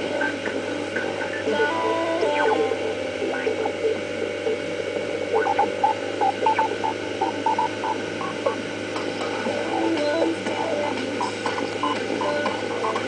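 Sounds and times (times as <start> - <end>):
motorboat engine humming: 0.0 - 13.0
water rushing: 0.0 - 13.0.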